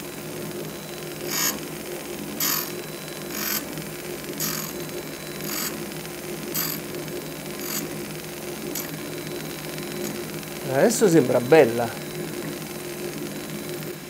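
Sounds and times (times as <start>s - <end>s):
grinding wheel hiss: 0.0s - 13.5s
grinder motor humming: 0.0s - 14.0s.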